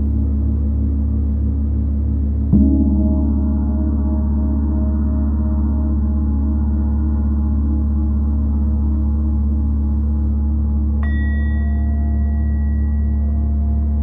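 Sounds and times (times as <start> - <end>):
gong ringing: 2.6 - 14.0.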